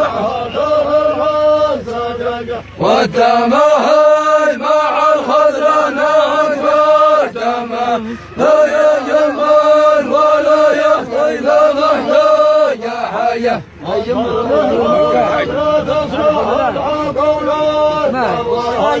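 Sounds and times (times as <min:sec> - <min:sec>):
men chanting: 0:00.0 - 0:19.0.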